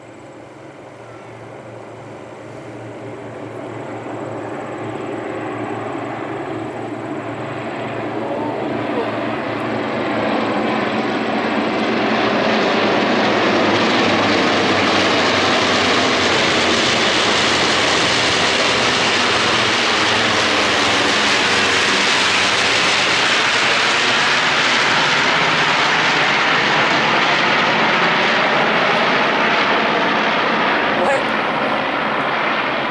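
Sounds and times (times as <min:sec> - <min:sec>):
propeller planes flying over: 0:00.0 - 0:32.9.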